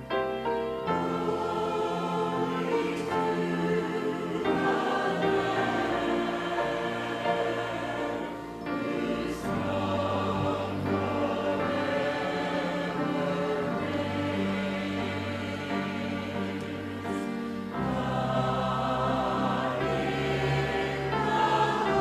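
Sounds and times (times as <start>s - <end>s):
group singing a hymn: 0.8s - 22.0s.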